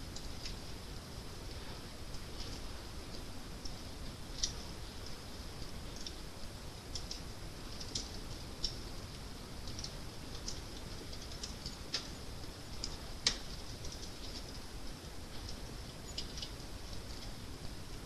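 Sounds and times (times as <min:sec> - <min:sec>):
fire crackling and popping: 0:00.0 - 0:18.0
low steady rumble: 0:00.0 - 0:18.0.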